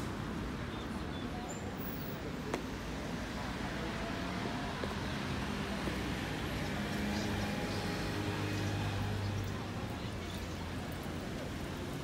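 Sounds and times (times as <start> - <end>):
cars passing on road: 0.0 - 12.0.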